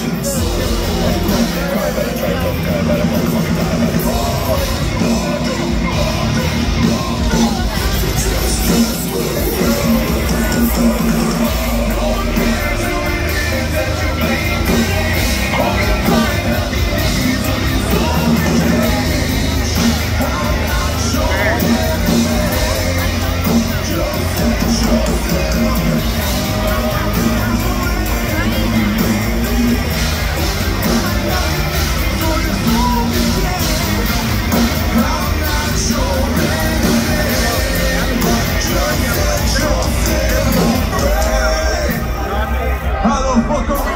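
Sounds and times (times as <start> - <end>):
hard rock band playing live: 0.0 - 43.9
singer singing and yelling: 0.0 - 43.9.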